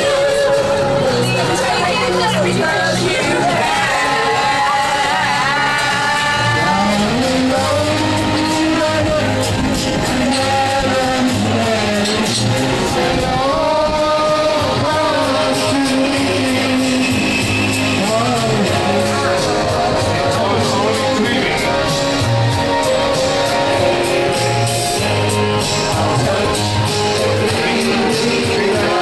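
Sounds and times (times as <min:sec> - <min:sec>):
loud backing track: 0:00.0 - 0:29.0
people singing into microphones: 0:00.0 - 0:29.0.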